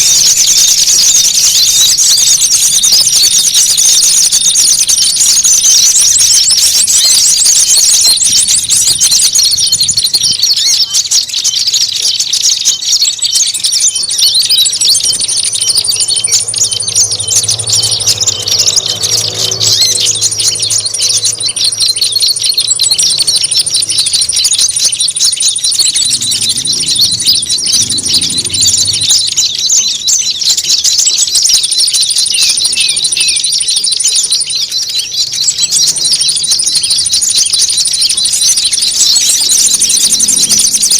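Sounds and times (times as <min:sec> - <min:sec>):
small birds chattering and chirping: 0:00.0 - 0:40.9.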